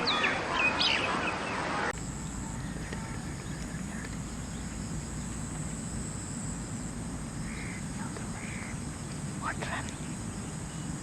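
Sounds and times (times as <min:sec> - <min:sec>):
insect drone: 0:02.0 - 0:11.0.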